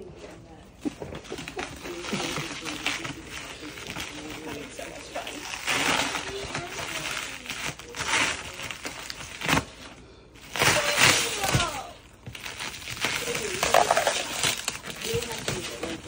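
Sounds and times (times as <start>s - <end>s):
tape and wrapping tearing: 1.4s - 9.8s, 10.4s - 16.0s.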